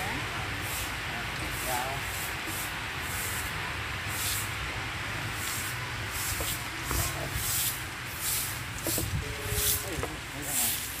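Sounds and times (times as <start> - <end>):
brooms sweeping leaves on paving: 0.0 - 11.0.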